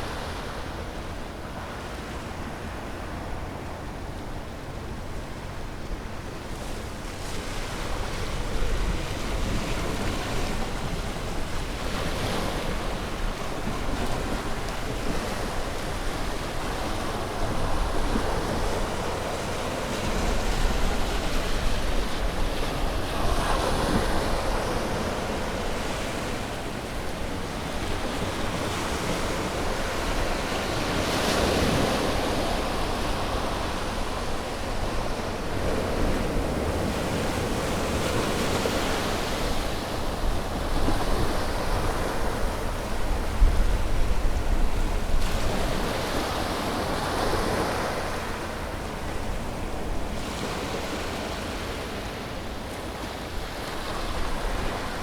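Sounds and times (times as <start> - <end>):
wind noise on microphone: 6.7 - 50.8.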